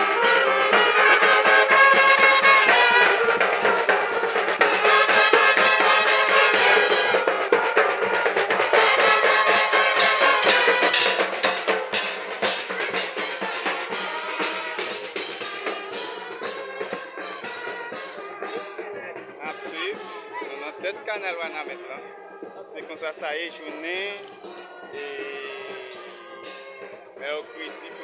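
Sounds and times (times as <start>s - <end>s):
bass and snare drums beating: 0.0s - 28.0s
trumpets playing: 0.0s - 28.0s.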